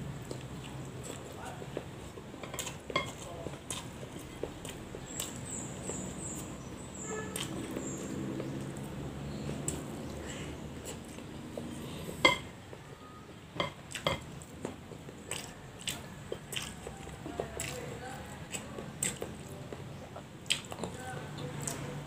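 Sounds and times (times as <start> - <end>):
chewing: 0.0 - 12.8, 13.6 - 22.0
fingers and food on a plate: 0.1 - 22.0.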